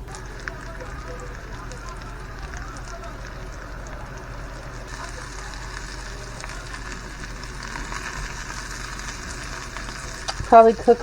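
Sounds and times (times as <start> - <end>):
mushrooms frying in a skillet: 0.0 - 11.0.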